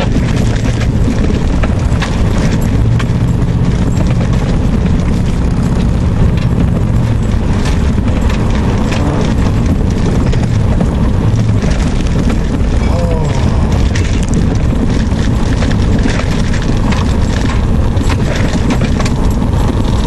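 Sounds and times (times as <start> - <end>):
truck engine hum: 0.0 - 20.0
tyres on dirt road: 0.0 - 20.0.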